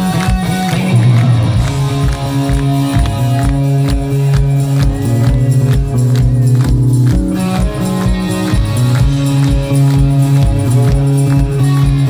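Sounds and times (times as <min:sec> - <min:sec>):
rock band playing live: 0:00.0 - 0:12.0.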